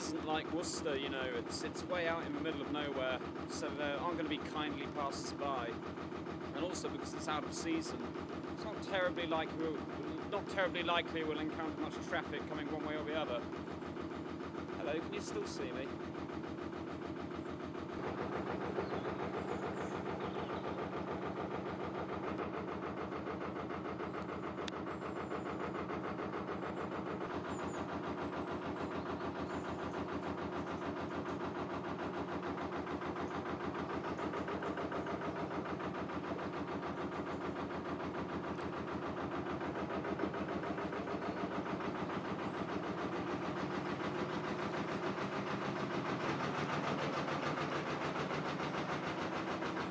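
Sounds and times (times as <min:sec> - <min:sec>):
boat diesel engine chugging: 0:00.0 - 0:49.9.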